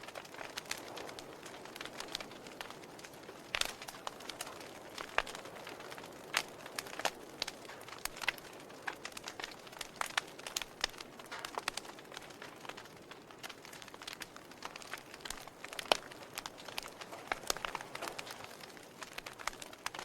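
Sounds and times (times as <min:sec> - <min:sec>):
logs crackling in a fireplace: 0:00.0 - 0:20.0.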